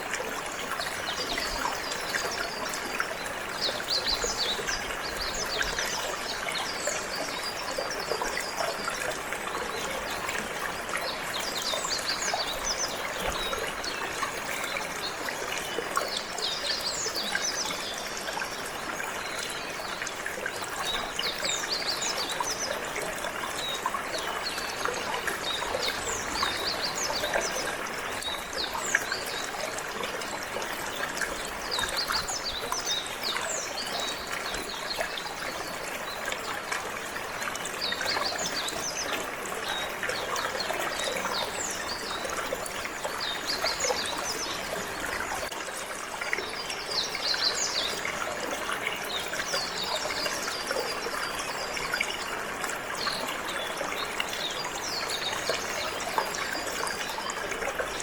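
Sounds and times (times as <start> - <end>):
trickling flowing water: 0.0 - 58.0.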